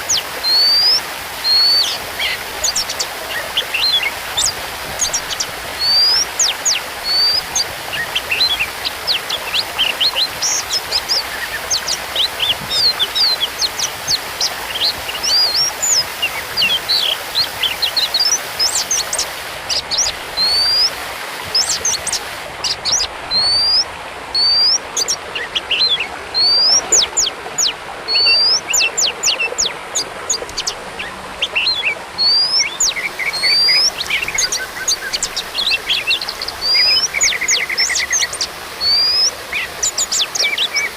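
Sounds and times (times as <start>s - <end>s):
magpie-robin singing: 0.1s - 20.9s, 21.6s - 40.9s.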